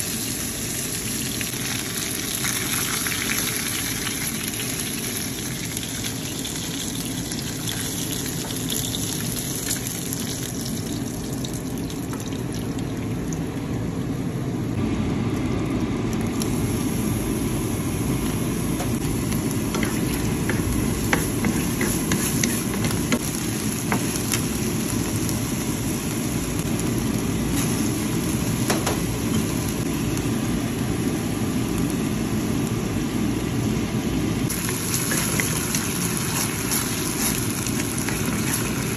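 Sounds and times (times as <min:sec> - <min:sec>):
oil sizzling in a frying pan: 0:00.0 - 0:13.5, 0:16.4 - 0:38.9.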